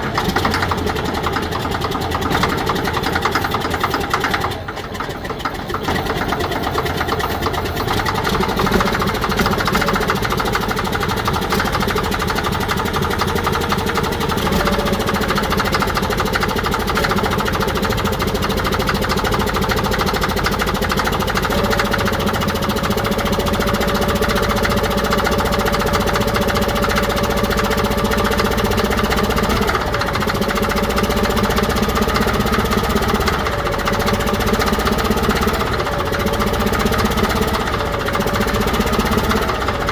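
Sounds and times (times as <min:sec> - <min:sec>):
bulldozer diesel engine clattering: 0:00.0 - 0:39.9.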